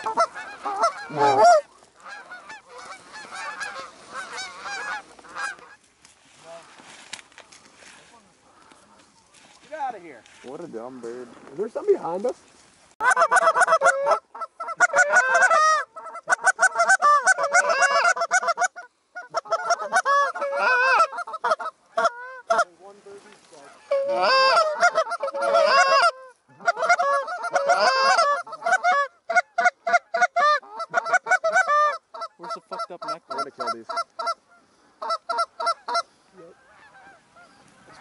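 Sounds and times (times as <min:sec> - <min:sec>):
goose honking and clucking: 0:00.0 - 0:10.6, 0:13.0 - 0:38.0.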